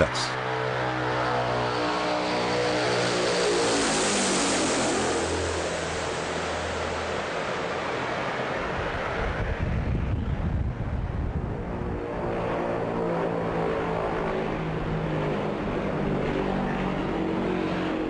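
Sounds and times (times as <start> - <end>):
aircraft propellers droning: 0.0 - 18.0.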